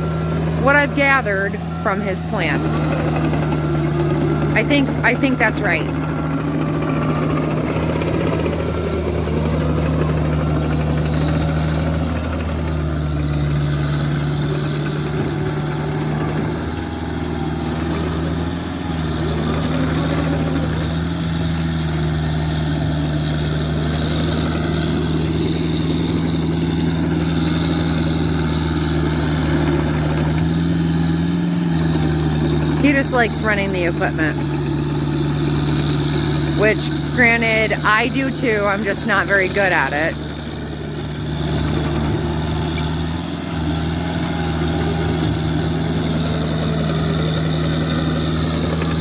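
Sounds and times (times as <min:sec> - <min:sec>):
excavator engine running: 0:00.0 - 0:49.0.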